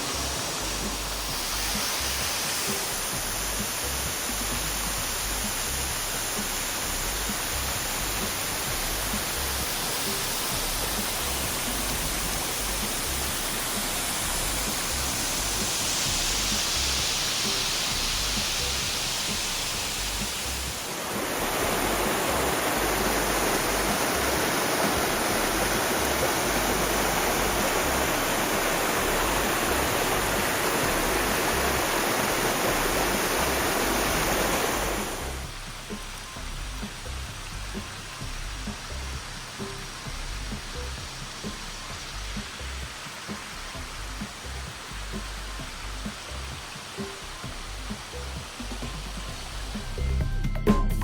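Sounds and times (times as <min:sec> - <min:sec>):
waterfall rushing: 0:00.0 - 0:50.5.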